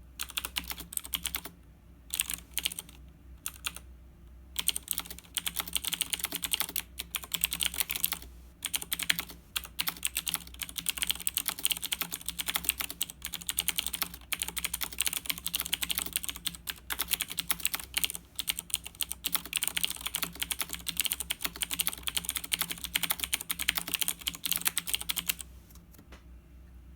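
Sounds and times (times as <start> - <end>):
fast typing on mechanical keyboard: 0.2 - 1.5, 2.1 - 3.8, 4.6 - 25.5.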